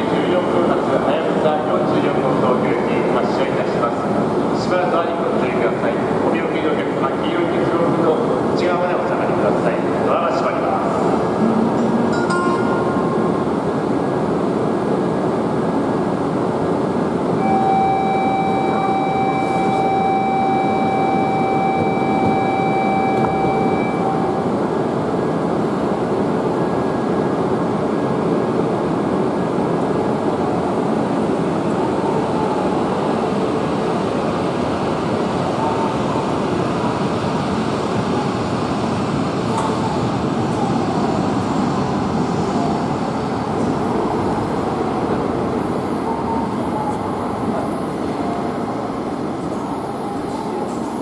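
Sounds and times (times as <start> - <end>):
train rushing rumble: 0.0 - 51.0.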